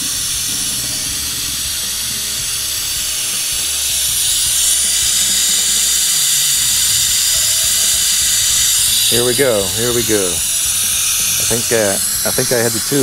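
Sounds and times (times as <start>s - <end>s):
compressed air hissing: 0.0s - 13.0s.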